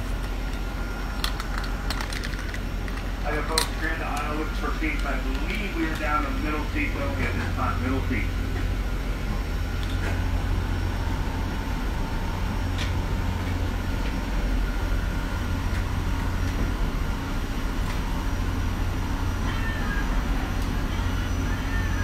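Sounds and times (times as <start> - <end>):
low drone of aircraft machinery: 0.0 - 22.0.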